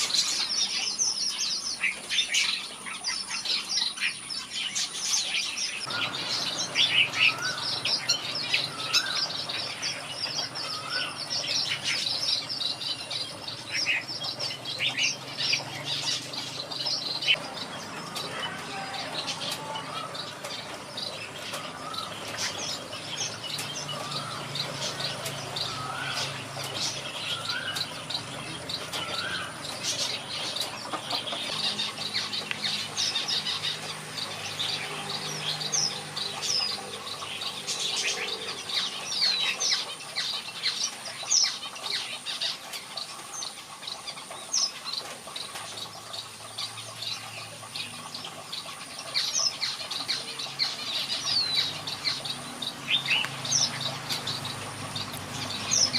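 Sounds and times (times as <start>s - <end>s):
birds chirping and whistling: 0.0s - 55.9s.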